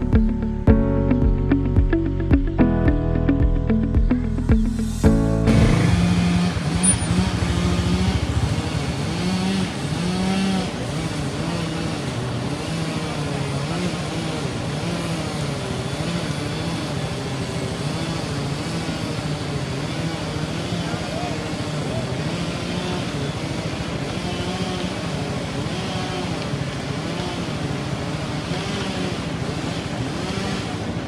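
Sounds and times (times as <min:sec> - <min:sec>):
road and wind noise: 0:01.5 - 0:31.0
vehicle engine running: 0:05.2 - 0:31.0.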